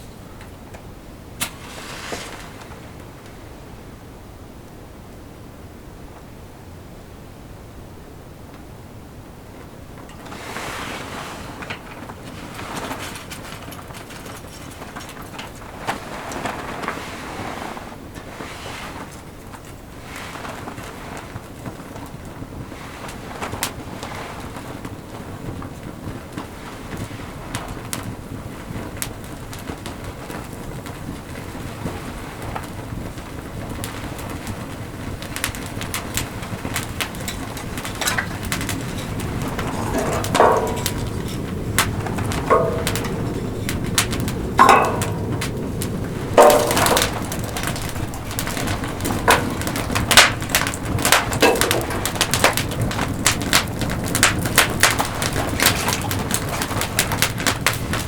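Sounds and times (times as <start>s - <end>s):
fire crackles and pops: 0.0s - 4.0s, 8.4s - 58.0s
campfire low rumble: 0.0s - 58.0s.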